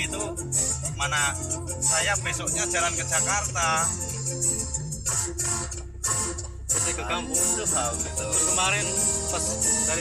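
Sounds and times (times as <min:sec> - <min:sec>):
recorded music with bass line: 0:00.0 - 0:10.0.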